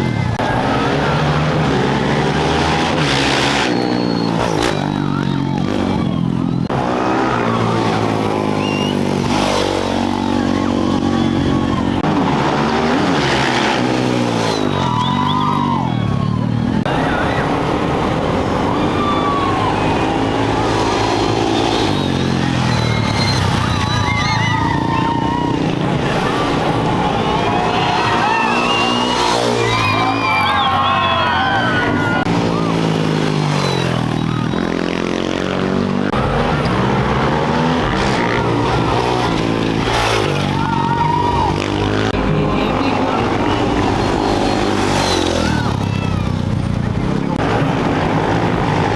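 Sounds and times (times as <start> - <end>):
motorcycle engines revving: 0.0 - 48.9.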